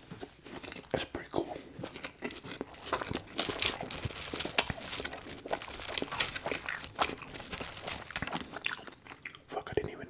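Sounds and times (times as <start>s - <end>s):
french fries rustling: 0.0s - 9.6s
crunching and chewing fried food: 0.0s - 9.9s.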